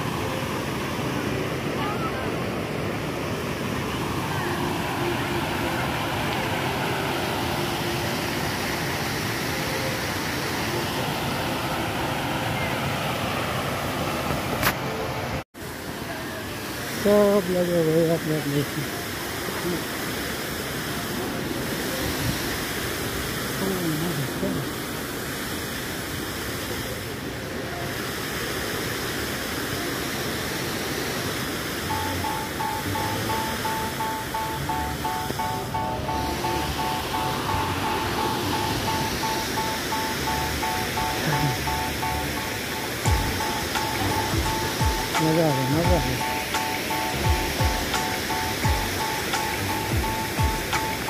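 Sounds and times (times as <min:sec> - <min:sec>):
fountain water splashing: 0:00.0 - 0:51.0.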